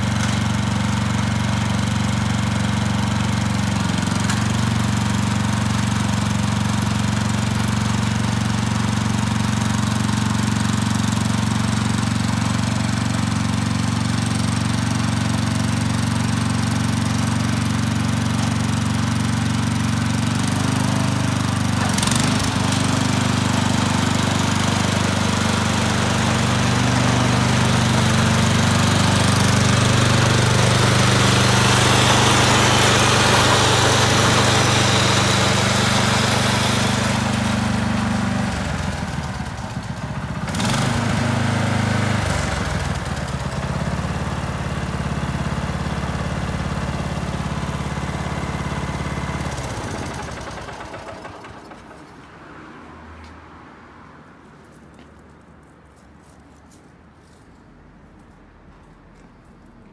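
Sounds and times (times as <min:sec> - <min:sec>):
tiller engine running: 0:00.0 - 0:52.2.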